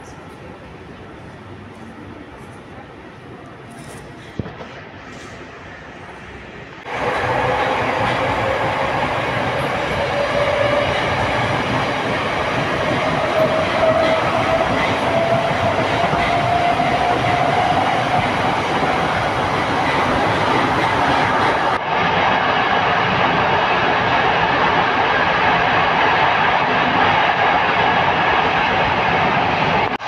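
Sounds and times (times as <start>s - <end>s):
train rumble and wheel noise: 0.0s - 30.0s.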